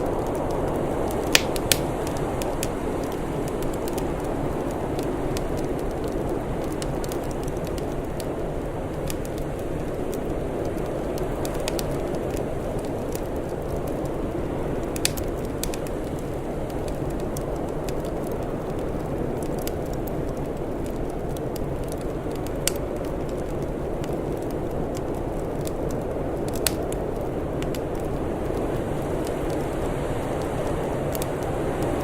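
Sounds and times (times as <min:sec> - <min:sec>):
sharp pops of fire: 0:00.0 - 0:32.0
wood fire crackling: 0:00.0 - 0:32.0.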